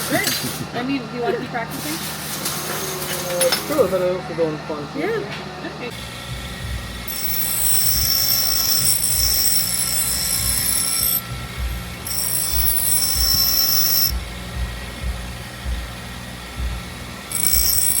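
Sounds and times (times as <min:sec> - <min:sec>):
welding arc whine and crackle: 0:00.0 - 0:04.7, 0:05.9 - 0:18.0.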